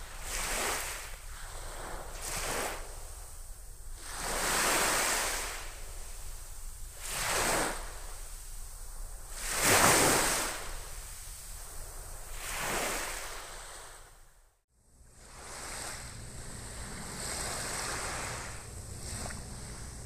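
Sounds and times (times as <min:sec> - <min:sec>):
small waves breaking on beach: 0:00.0 - 0:14.2, 0:15.2 - 0:20.0.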